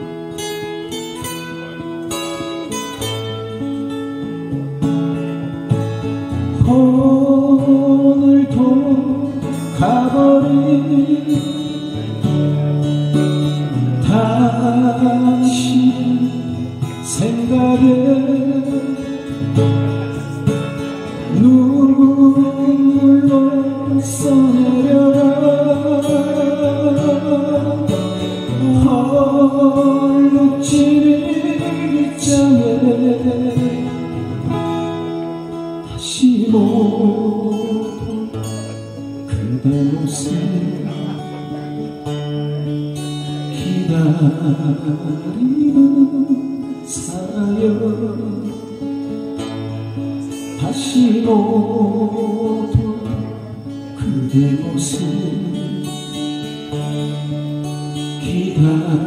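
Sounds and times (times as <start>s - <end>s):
acoustic guitars playing: 0.0s - 59.0s
man singing: 6.3s - 34.6s, 35.9s - 42.6s, 43.2s - 48.9s, 50.2s - 57.2s, 57.8s - 59.0s.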